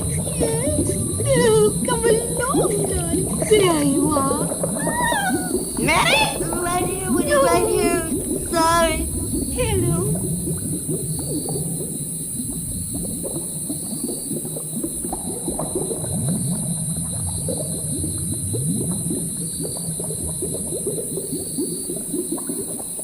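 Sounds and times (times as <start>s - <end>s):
thick liquid bubbling: 0.0s - 23.0s.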